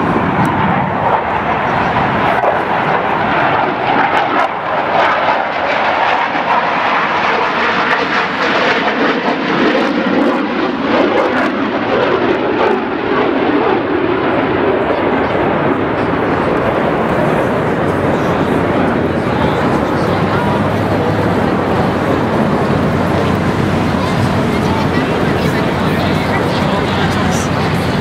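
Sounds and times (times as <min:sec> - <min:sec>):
airplane flying past: 0:00.0 - 0:28.0.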